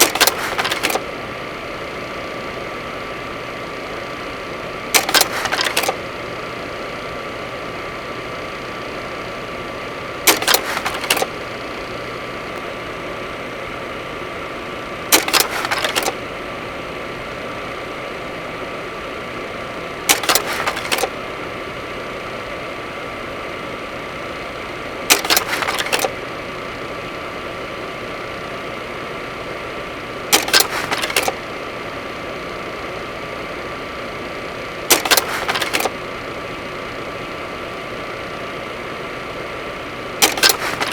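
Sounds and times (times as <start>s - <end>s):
turboprop engine running: 0.0s - 40.9s.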